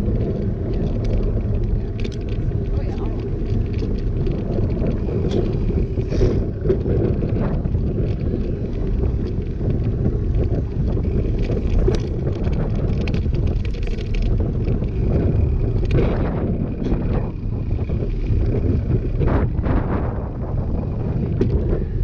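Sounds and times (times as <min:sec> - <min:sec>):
bicycle tyres rolling over asphalt: 0:00.0 - 0:22.0
small clicks and rattles: 0:00.0 - 0:22.0
wind buffeting microphone: 0:00.0 - 0:22.0.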